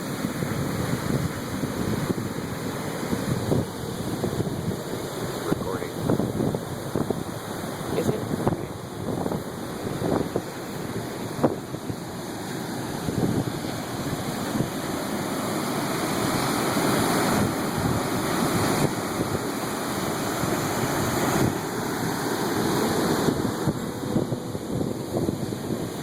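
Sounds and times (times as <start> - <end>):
ocean surf washing on shore: 0.0 - 26.0
wind rumbling on microphone: 0.0 - 26.0.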